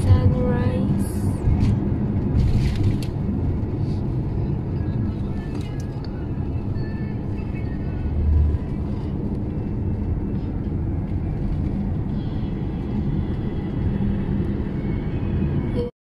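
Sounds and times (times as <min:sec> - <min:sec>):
car road and engine rumble: 0:00.0 - 0:15.9.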